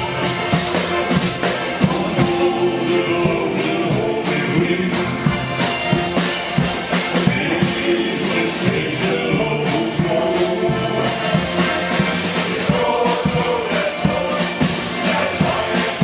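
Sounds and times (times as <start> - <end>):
accordions playing: 0.0 - 16.0
bass drum beating: 0.0 - 16.0
choir singing: 0.0 - 16.0.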